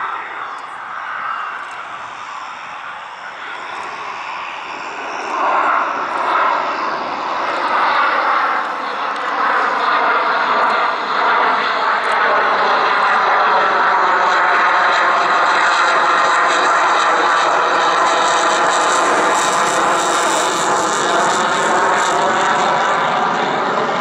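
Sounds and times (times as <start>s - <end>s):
fighter jet engines roaring: 0.0s - 24.0s.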